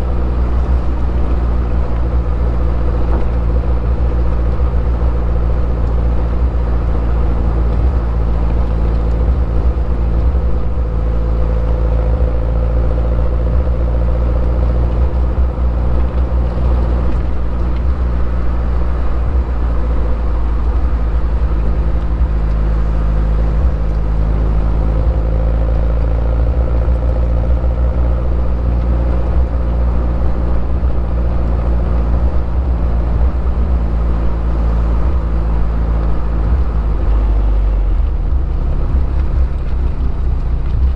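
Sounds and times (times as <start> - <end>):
car engine drone: 0.0 - 40.9
road rumble: 0.0 - 40.9.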